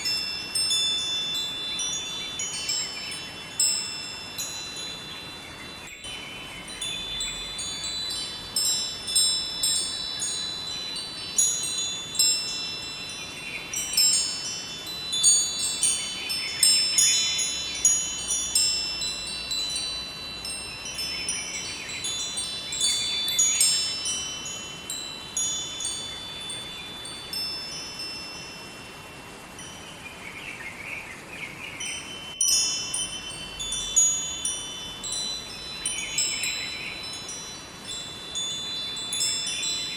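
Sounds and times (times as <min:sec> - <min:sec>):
wind chimes ringing: 0:00.0 - 0:30.4, 0:31.8 - 0:39.9.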